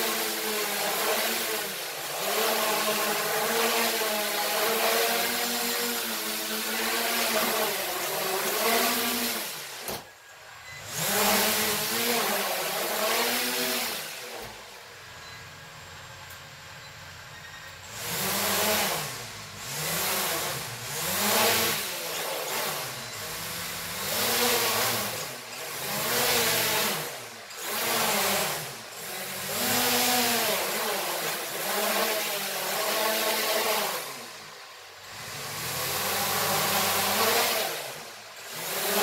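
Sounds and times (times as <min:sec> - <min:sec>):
toy drone motors whining: 0:00.0 - 0:14.6, 0:17.4 - 0:39.0.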